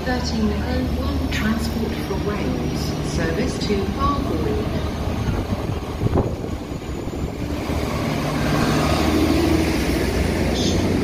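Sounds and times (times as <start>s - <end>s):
train engine drone: 0.0s - 11.0s.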